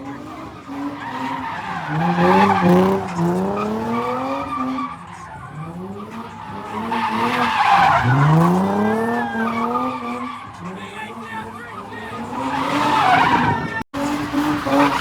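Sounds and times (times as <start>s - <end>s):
car engine revving hard: 0.0s - 15.0s
tyres screeching: 0.0s - 15.0s.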